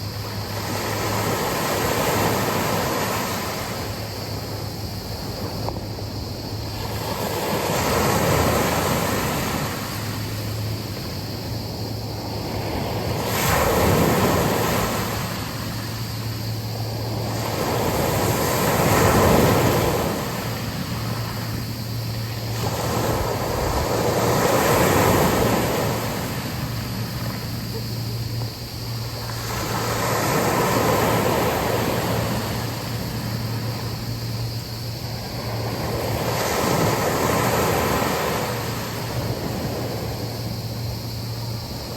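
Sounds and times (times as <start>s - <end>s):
sea waves breaking on beach: 0.0s - 41.9s.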